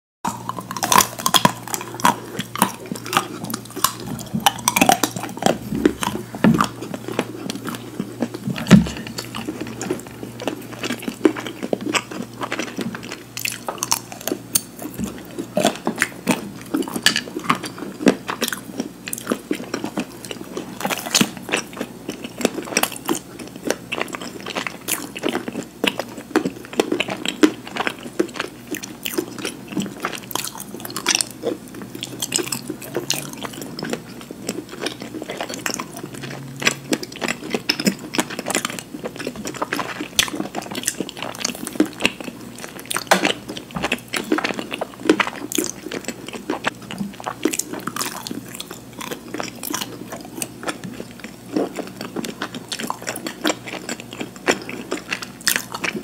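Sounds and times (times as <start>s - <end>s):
person chewing crunchy food: 0.3s - 56.0s.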